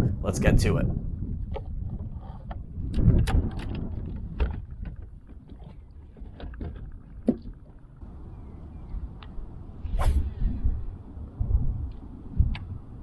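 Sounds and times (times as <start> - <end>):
wind on microphone: 0.0 - 6.4, 8.4 - 13.0.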